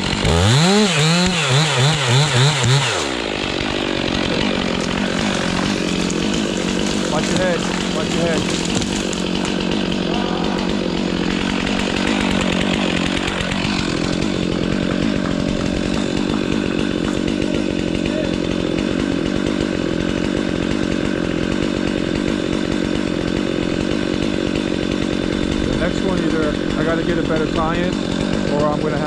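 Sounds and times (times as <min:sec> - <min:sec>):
chainsaw engine running: 0:00.0 - 0:29.0.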